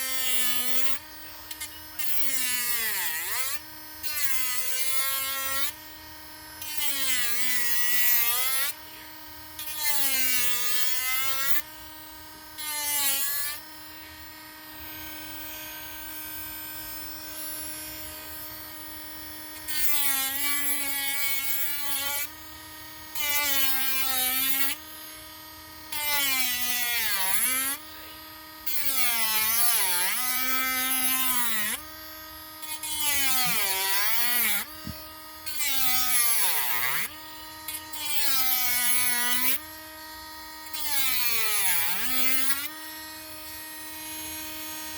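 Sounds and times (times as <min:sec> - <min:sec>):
rotary tool grinding wood: 0:00.0 - 0:44.9.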